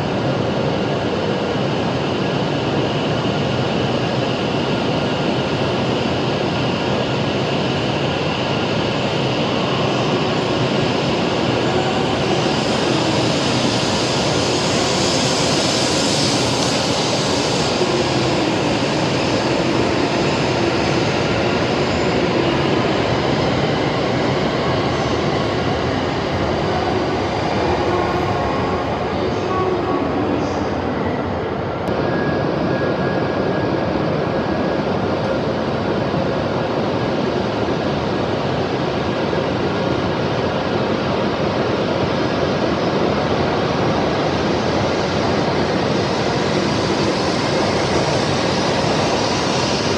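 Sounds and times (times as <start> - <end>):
train rumble and hiss: 0.0 - 49.9.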